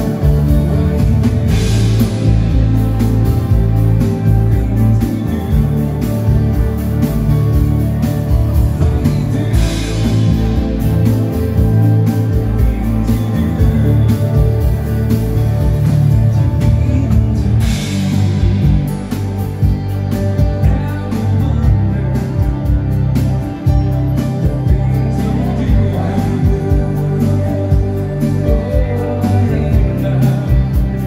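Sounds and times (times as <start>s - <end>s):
live band music: 0.0s - 31.0s
steady bass line: 0.0s - 31.0s.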